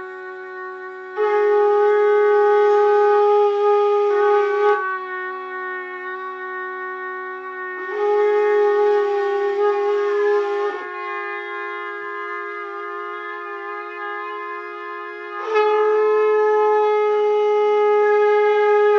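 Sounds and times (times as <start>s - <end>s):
animal horn blowing: 0.0s - 18.9s
conch shell blowing: 0.0s - 18.9s
small brass horn blowing: 0.0s - 18.9s.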